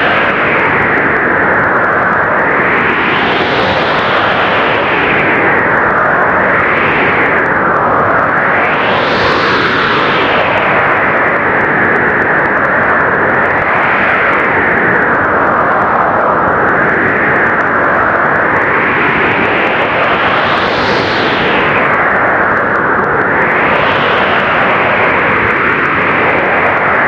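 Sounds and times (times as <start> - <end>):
blizzard wind blowing hard: 0.0 - 27.0.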